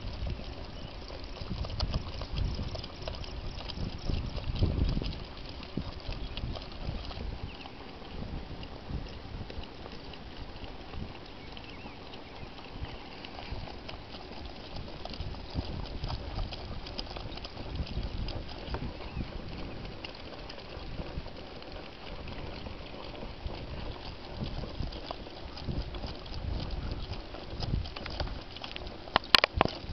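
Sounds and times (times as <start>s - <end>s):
cart wheels rattling and crunching: 0.0s - 29.9s
wind buffeting microphone: 0.0s - 29.9s.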